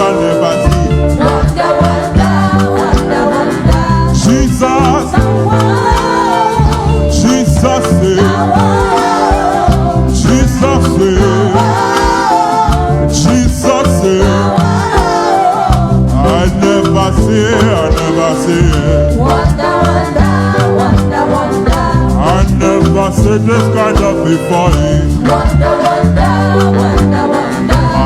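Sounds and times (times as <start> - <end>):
gospel band playing: 0.0 - 28.0
people singing: 0.0 - 28.0.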